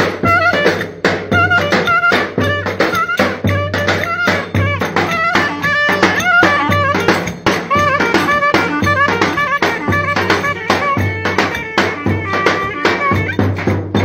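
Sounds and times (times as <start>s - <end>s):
fast drum beat: 0.0s - 14.0s
ornamented wavering melody: 0.0s - 14.0s.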